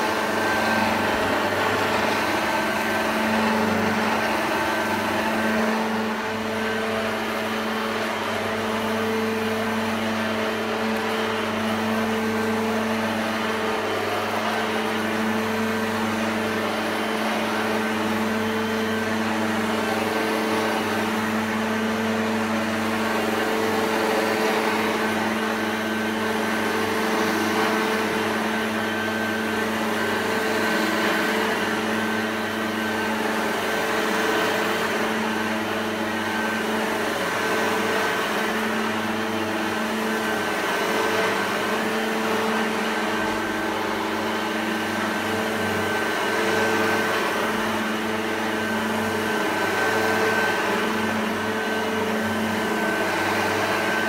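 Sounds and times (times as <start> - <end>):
electric motor humming and whining: 0.0 - 54.0.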